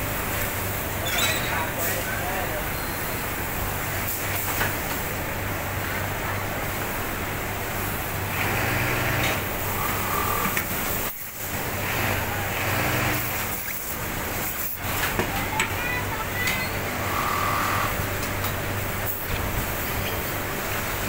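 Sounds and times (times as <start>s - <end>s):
factory machinery hum: 0.0s - 21.0s.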